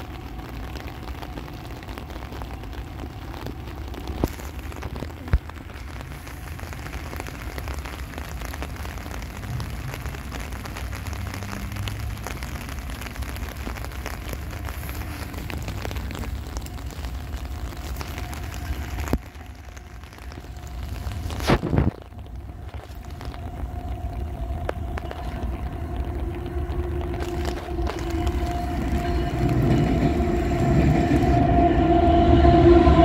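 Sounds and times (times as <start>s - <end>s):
low rumble: 0.0s - 33.0s
rain falling on platform: 0.0s - 33.0s.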